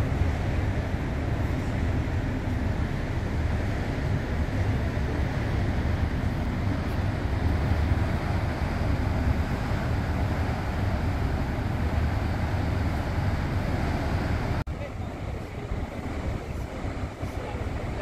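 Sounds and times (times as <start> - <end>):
ship engine rumble and hiss: 0.0 - 18.0.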